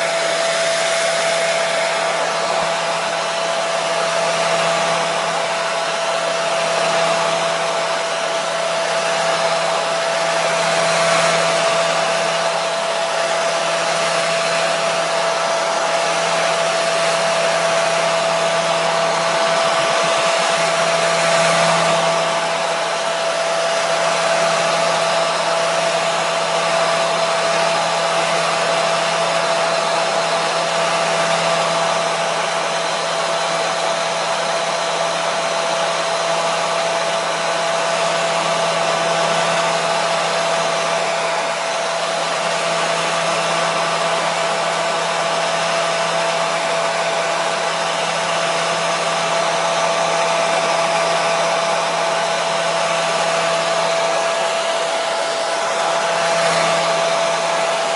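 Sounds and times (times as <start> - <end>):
hair dryer running: 0.0 - 57.9.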